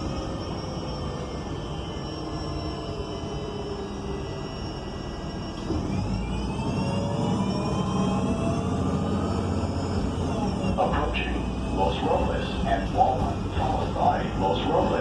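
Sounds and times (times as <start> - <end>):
bus engine with whining transmission: 0.0 - 15.0.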